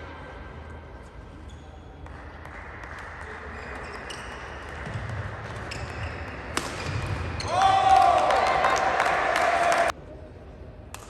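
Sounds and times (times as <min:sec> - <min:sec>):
murmur of indoor hall noise: 0:00.0 - 0:11.0.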